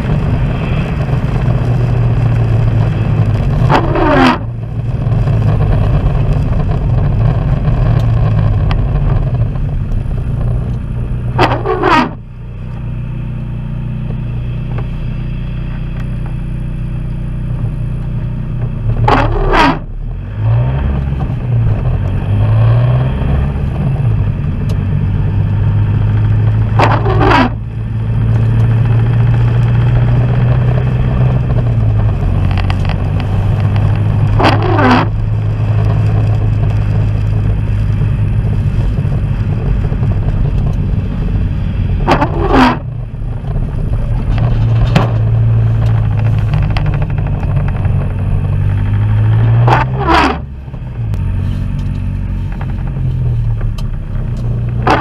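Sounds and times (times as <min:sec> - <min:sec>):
windscreen wipers sweeping wet glass: 0:00.0 - 0:12.3, 0:18.6 - 0:55.0
vehicle engine and road noise: 0:00.0 - 0:55.0.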